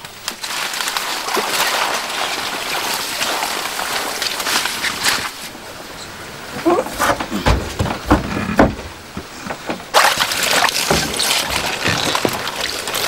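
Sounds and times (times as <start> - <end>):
leaves rustling: 0.0 - 13.0
water splashing: 0.0 - 13.0.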